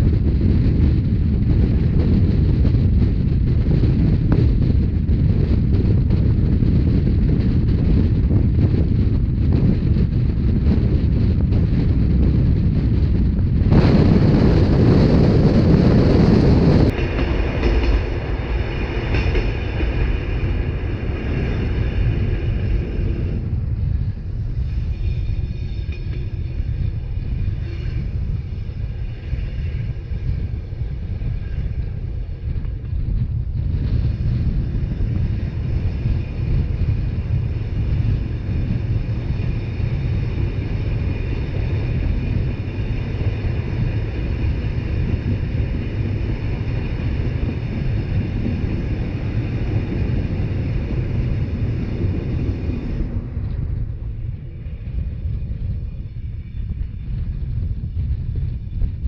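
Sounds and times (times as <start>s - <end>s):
train wheels rumbling on rails: 0.0s - 59.0s
wind hiss on microphone: 0.0s - 59.0s.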